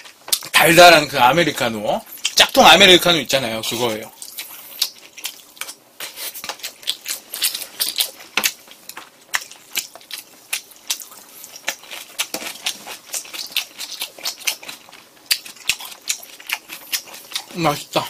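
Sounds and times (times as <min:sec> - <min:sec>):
chewing crunchy fried food: 0:02.0 - 0:02.7, 0:03.6 - 0:18.0.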